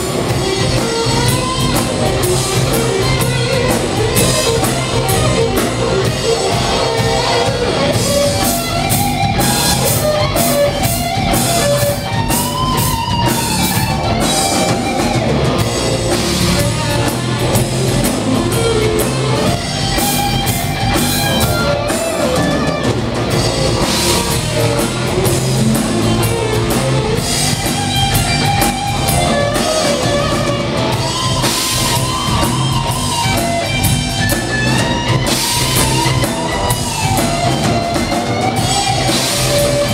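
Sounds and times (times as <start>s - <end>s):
drum kit with cymbals: 0.0s - 39.9s
electric guitar lines: 0.0s - 39.9s.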